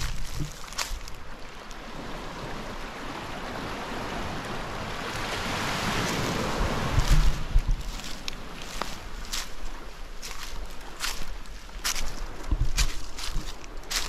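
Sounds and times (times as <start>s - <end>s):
small waves washing onto beach: 0.0s - 14.0s.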